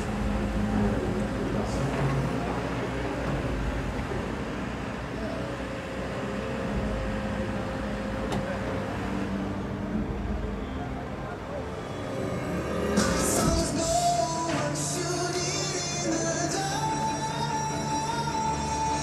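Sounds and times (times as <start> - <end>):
crowd noise: 0.0 - 19.0
diesel engines running: 0.0 - 19.0.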